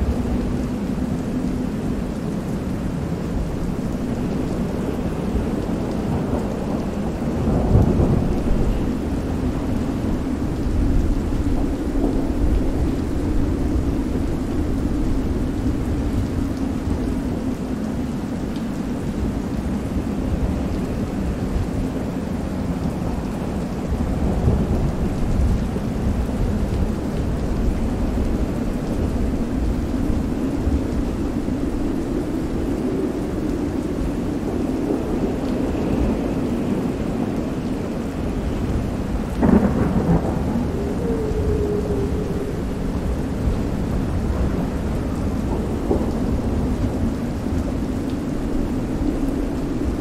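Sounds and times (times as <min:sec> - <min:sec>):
heavy rain: 0:00.0 - 0:50.0
low thunder rumbling: 0:03.4 - 0:17.5, 0:23.0 - 0:50.0.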